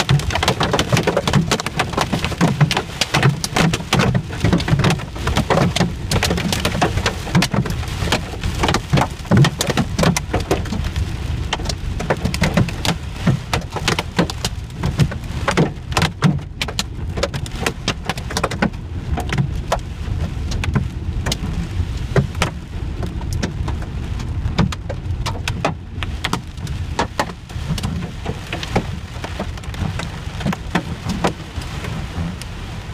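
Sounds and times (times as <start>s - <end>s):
hail and rain hitting car roof: 0.0s - 32.9s
low road rumble: 0.0s - 32.9s.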